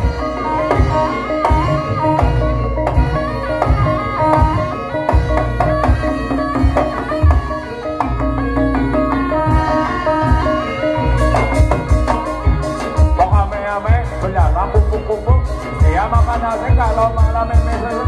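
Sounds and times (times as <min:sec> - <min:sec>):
hand drums beating: 0:00.0 - 0:18.0.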